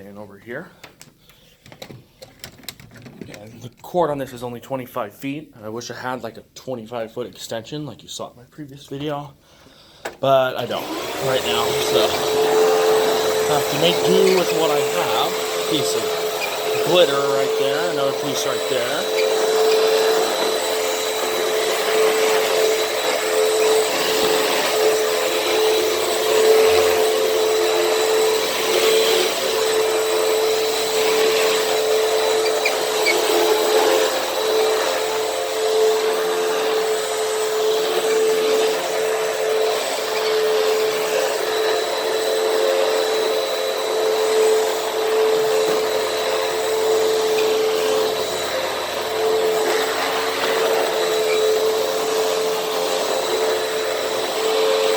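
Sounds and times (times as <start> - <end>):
vacuum cleaner running: 10.0 - 54.9.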